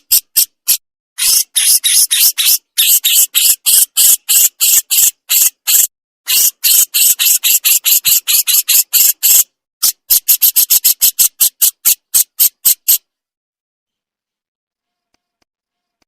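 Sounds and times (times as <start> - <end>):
bird harsh scratchy call: 0.0 - 13.1.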